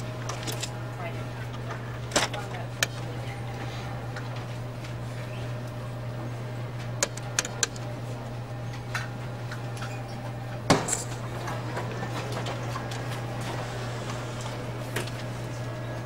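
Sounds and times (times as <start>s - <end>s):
photocopier humming: 0.0s - 16.0s.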